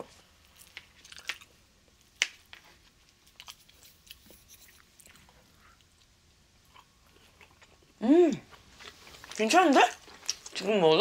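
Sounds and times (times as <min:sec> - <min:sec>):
soft chewing: 0:00.0 - 0:10.7.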